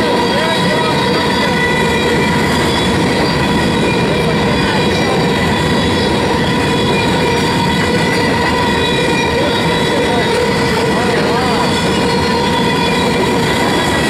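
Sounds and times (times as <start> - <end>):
high ringing wheel tones: 0.0 - 14.0
steel wheels rumbling on rail: 0.0 - 14.0.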